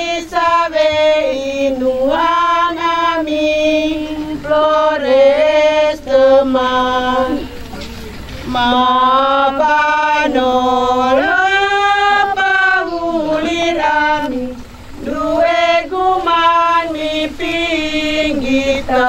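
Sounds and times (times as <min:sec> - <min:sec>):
woman singing a slow devotional song: 0:00.0 - 0:07.8, 0:08.4 - 0:19.0.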